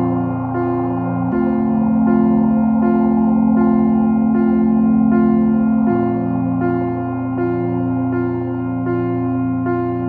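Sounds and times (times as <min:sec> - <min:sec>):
ambient keyboard music: 0:00.0 - 0:10.0.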